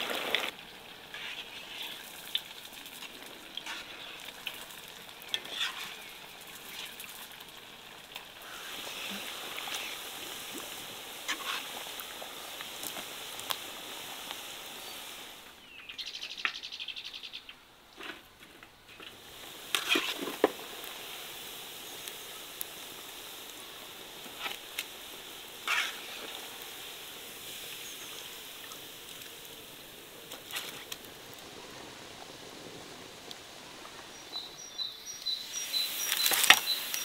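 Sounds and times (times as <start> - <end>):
hot oil sizzling in a pot: 0.0 - 16.6, 19.0 - 37.0.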